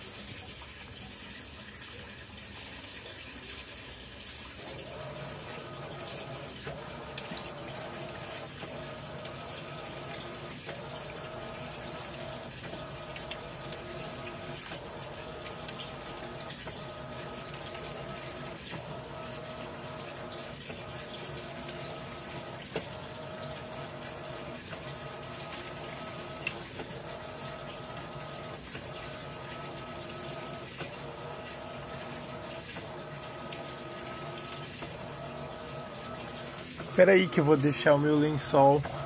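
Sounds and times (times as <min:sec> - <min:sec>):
washing machine hum: 0:00.0 - 0:39.0
water rushing and sloshing: 0:00.0 - 0:39.0.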